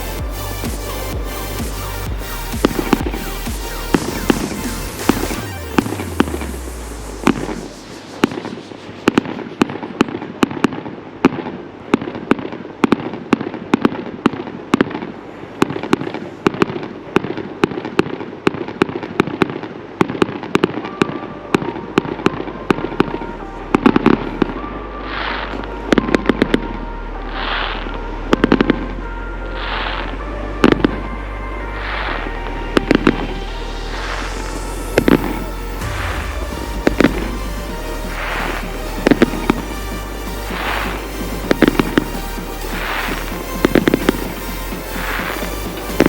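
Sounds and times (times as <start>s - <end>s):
firework bursts: 0.0s - 22.2s, 29.5s - 46.0s
crackling firework bursts: 0.0s - 23.1s, 31.7s - 46.0s.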